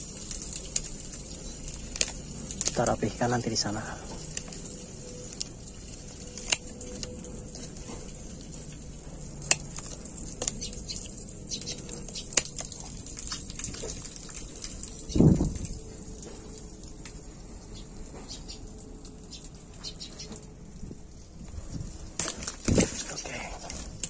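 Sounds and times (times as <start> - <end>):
dry twigs rustling and snapping: 0.0 - 24.0.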